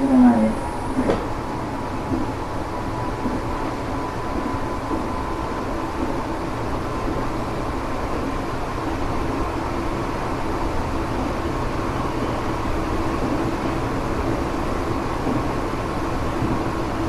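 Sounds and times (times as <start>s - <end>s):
faint steady whine: 0.0s - 17.0s
train running at speed: 0.0s - 17.0s.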